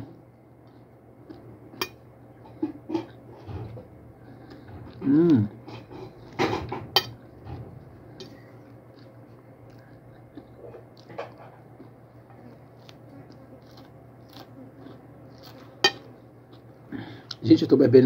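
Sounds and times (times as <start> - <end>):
chewing crunchy food: 0.0 - 17.4
low steady hum: 0.0 - 18.0.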